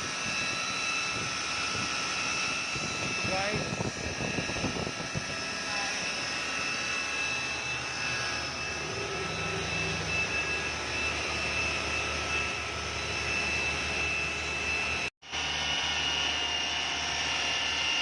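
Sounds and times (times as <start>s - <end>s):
high engine whine: 0.0s - 18.0s.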